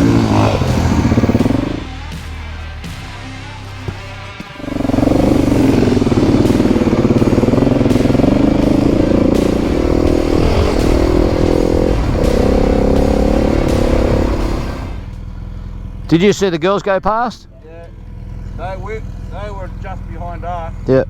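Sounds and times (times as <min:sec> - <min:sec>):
motorcycle engine under throttle: 0:00.0 - 0:02.2, 0:03.9 - 0:16.1, 0:17.9 - 0:20.9.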